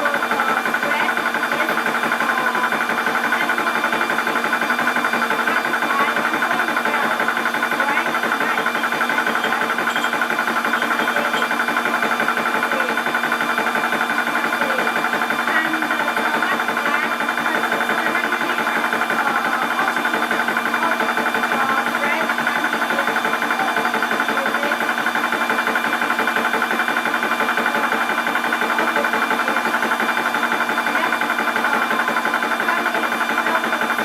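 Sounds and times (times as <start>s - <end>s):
air compressor humming: 0.0s - 34.0s.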